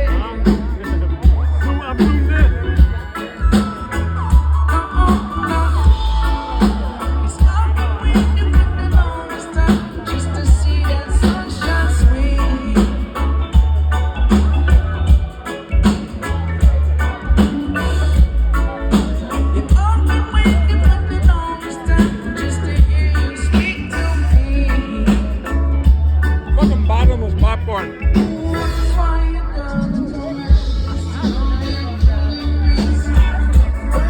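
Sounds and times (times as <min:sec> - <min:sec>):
steady drum beat: 0:00.0 - 0:29.0, 0:30.5 - 0:34.0
heavy bass line: 0:00.0 - 0:34.0
person singing: 0:00.0 - 0:34.0.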